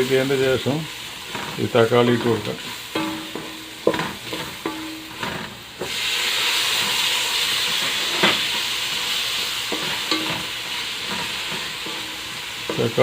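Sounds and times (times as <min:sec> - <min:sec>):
tomato sizzling in hot pan: 0:00.0 - 0:13.0
spoon stirring and scraping pan: 0:00.9 - 0:13.0.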